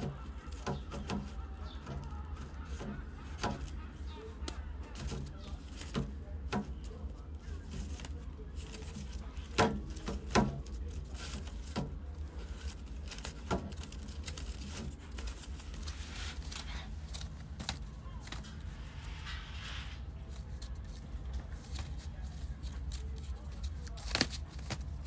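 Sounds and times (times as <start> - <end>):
kittens scratching and scrabbling: 0.0 - 25.0.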